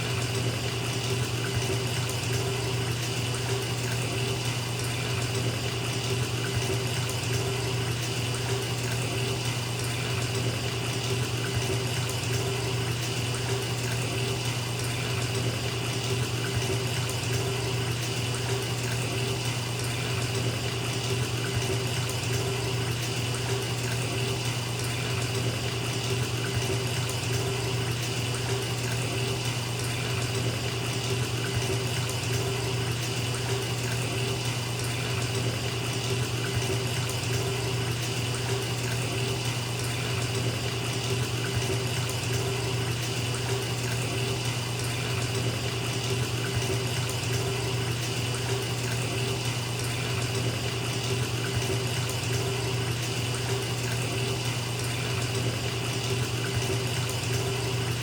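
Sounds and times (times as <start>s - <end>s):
tap water running into tub: 0.0s - 58.0s.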